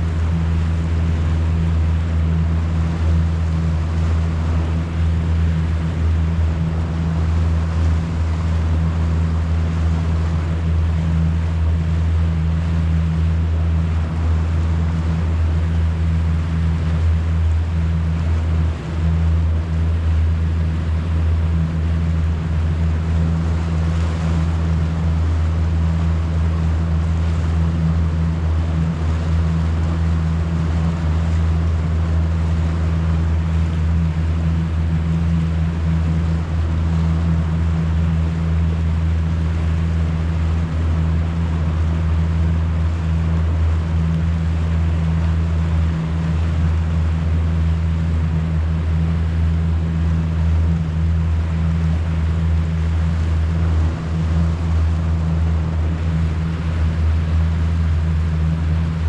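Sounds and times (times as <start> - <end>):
boat motor droning: 0.0 - 59.0
water and wind hiss: 0.0 - 59.0.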